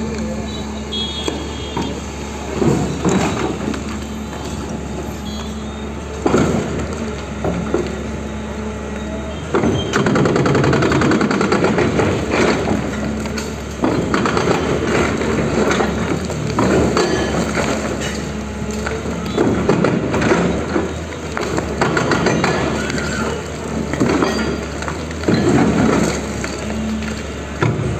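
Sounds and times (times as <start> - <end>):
debris cracking and crunching: 0.0 - 8.3, 9.0 - 27.9
excavator engine running: 0.0 - 27.9.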